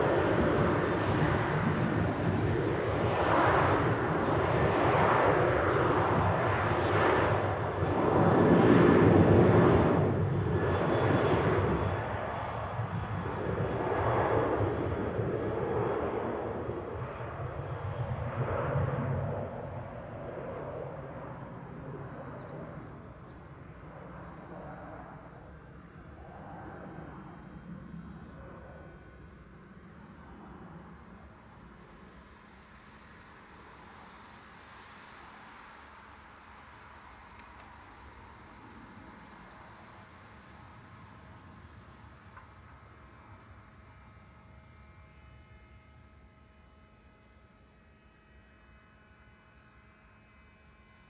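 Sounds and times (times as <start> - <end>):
jet engines at takeoff: 0.0 - 51.0.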